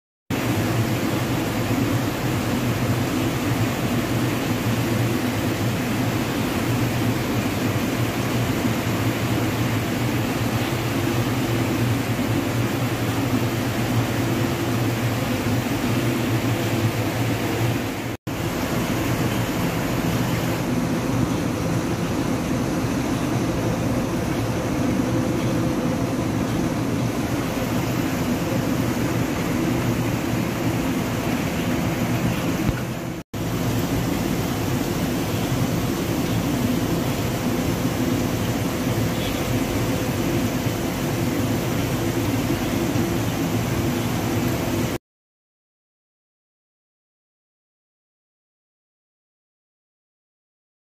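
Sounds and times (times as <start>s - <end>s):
aquarium pump low hum: 0.3s - 45.0s
water and air rushing: 0.3s - 45.0s.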